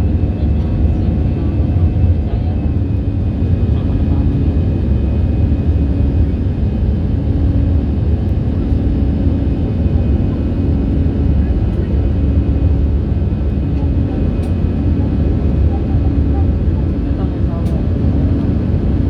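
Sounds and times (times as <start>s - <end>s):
airliner engines droning: 0.0s - 19.0s.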